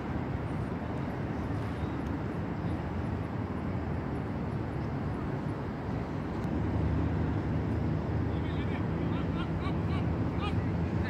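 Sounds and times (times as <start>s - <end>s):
low rumbling outdoor background: 0.0s - 11.0s.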